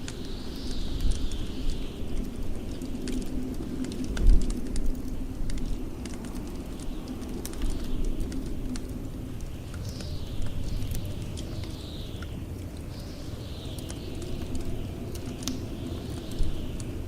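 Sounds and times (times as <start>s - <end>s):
blizzard wind whistling: 0.0s - 17.0s
wood fire crackling: 0.0s - 17.0s.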